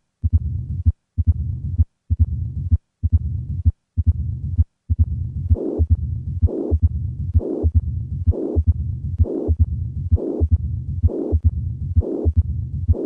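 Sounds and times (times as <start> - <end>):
hissing systolic heart murmur: 0.2 - 13.0
low diastolic heart rumble: 0.2 - 13.0
sharp heart valve sounds: 0.2 - 13.0.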